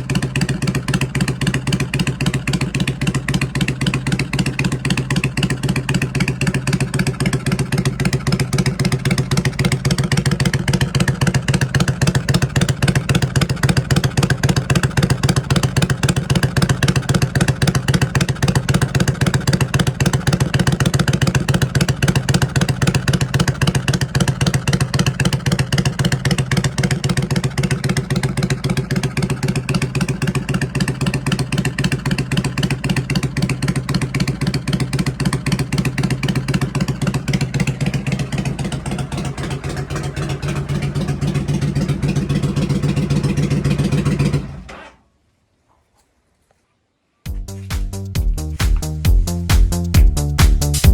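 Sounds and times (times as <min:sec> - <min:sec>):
motorcycle engine idling: 0:00.0 - 0:44.7.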